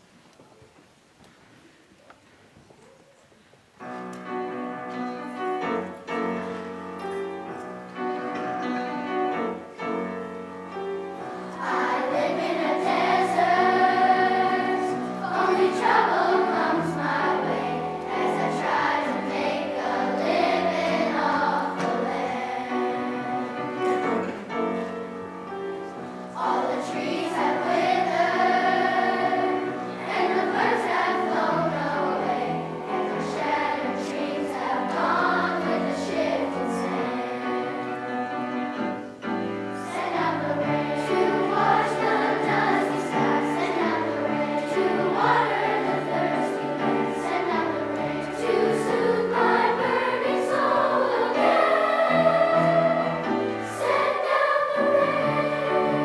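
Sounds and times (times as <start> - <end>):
children's choir singing: 3.8 - 56.0
piano playing: 3.8 - 56.0.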